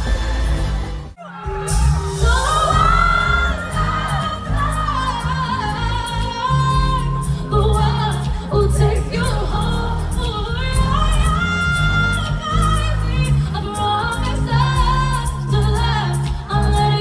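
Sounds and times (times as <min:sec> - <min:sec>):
band playing: 0:00.0 - 0:16.9
woman singing pop: 0:02.2 - 0:17.0.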